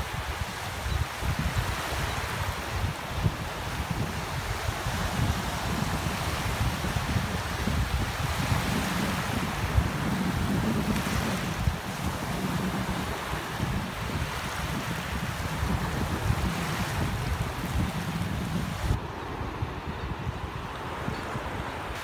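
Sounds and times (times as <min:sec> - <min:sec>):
waves washing on sandy beach: 0:00.0 - 0:22.0
wind buffeting microphone: 0:00.0 - 0:22.0.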